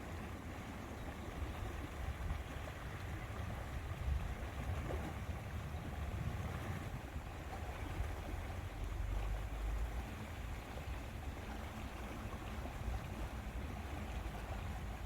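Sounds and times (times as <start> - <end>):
moving water: 0.0 - 15.0
wind rumble on microphone: 0.0 - 15.0.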